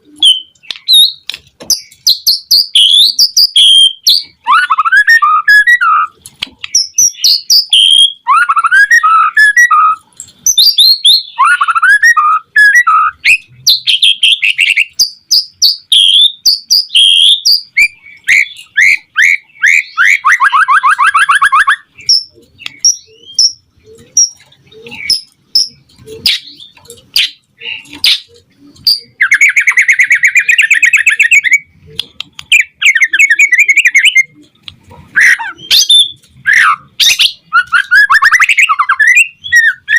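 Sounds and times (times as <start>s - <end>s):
songbird whistling and trilling: 0.0s - 31.7s, 32.5s - 34.4s, 35.1s - 39.9s.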